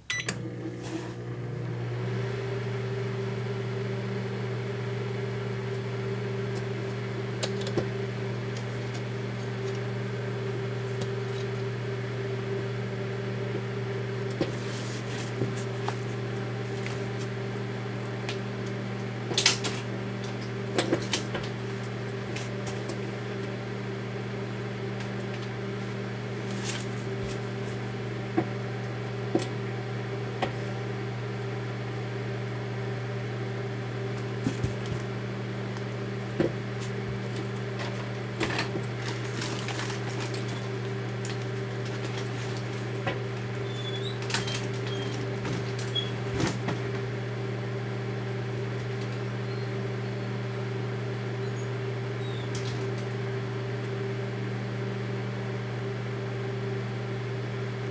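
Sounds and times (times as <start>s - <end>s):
microwave oven humming: 0.0s - 57.9s.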